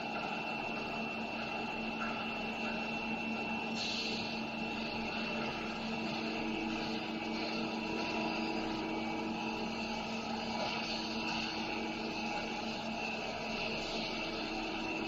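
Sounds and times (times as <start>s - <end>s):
machine tool hum and whine: 0.0s - 15.0s.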